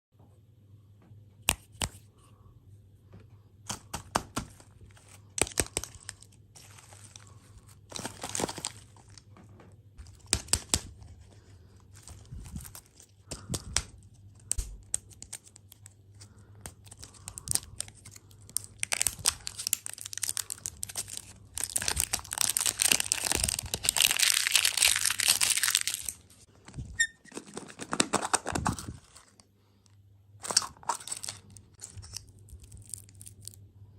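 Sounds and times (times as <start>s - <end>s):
wrappers crinkling and tearing: 4.5s - 9.4s, 10.0s - 29.4s, 30.4s - 33.6s.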